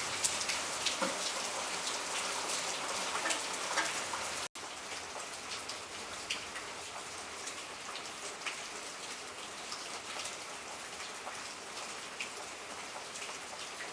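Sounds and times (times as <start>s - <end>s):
heavy rain: 0.0s - 13.9s
raindrops ticking close by: 0.0s - 13.9s.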